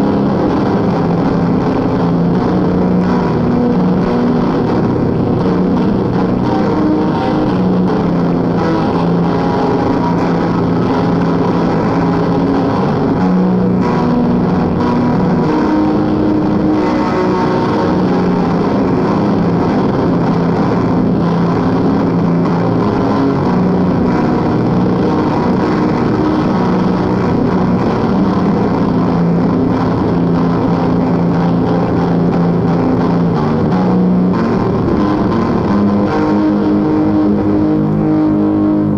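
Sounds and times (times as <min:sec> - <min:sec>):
distorted drone noise music: 0:00.0 - 0:38.9.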